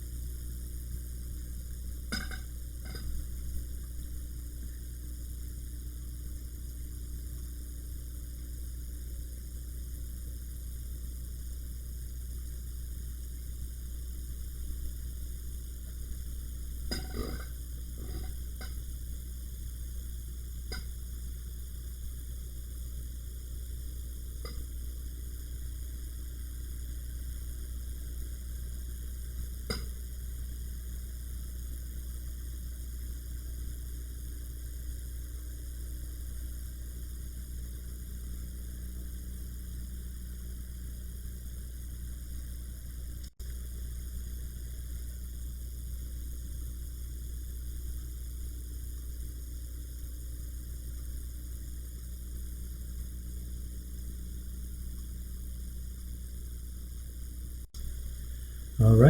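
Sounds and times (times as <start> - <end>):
low electrical hum with hiss: 0.0 - 59.0.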